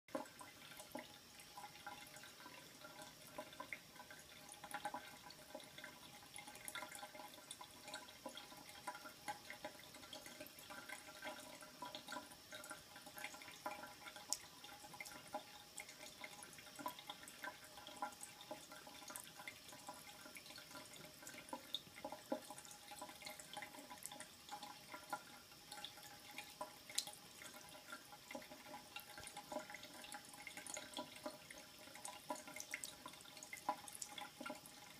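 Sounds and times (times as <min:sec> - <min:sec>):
faucet water running into sink: 0:00.1 - 0:34.9.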